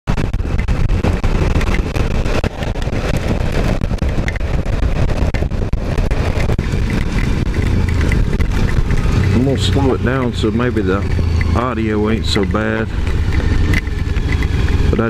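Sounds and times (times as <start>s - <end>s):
motorcycle running: 0.1s - 15.0s
wind buffeting microphone: 0.1s - 15.0s.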